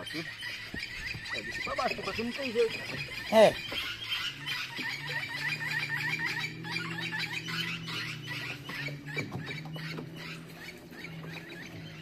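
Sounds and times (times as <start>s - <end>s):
small animal chirping: 0.0s - 12.0s
steady low hum: 0.0s - 12.0s.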